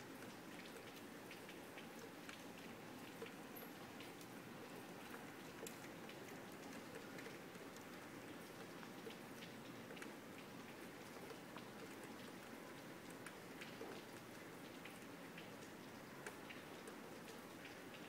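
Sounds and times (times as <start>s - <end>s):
rain falling: 0.0s - 18.0s
raindrops ticking: 0.2s - 18.0s.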